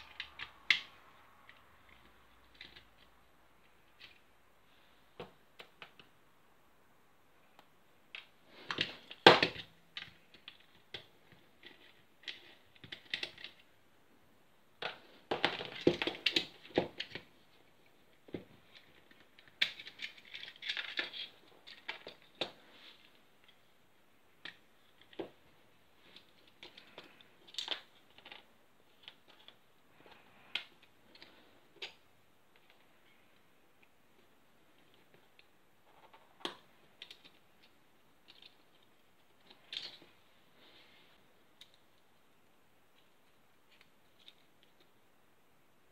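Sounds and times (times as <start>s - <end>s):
plastic parts clicking and rattling: 0.0s - 4.3s, 7.5s - 13.8s, 14.7s - 40.2s, 41.4s - 45.0s.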